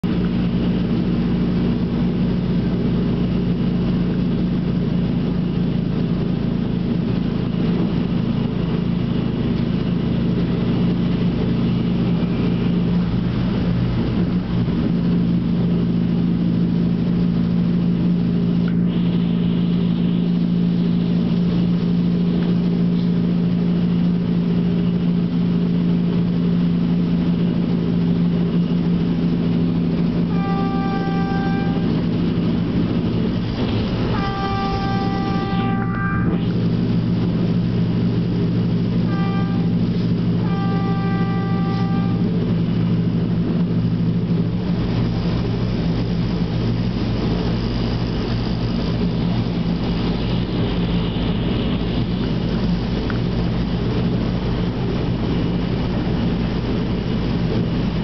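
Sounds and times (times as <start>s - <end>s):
diesel train engine humming: 0.0s - 58.0s
train running gear rumble: 0.0s - 58.0s.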